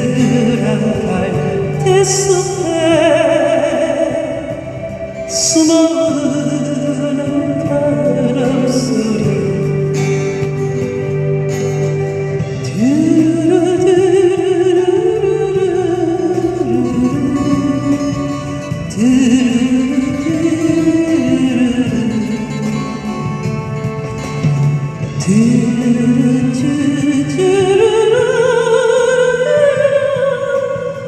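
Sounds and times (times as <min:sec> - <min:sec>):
acoustic guitar accompaniment: 0:00.0 - 0:31.0
wavering lead melody: 0:00.0 - 0:31.0.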